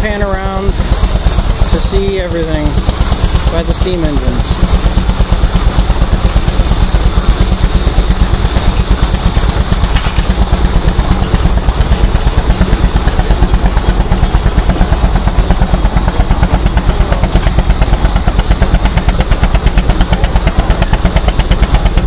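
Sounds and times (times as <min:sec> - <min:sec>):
engine running with low pulses: 0:00.0 - 0:22.0.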